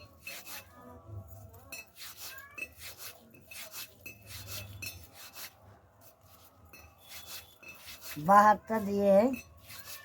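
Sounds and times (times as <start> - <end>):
hands rubbing dough: 0.0 - 0.8, 1.7 - 10.0.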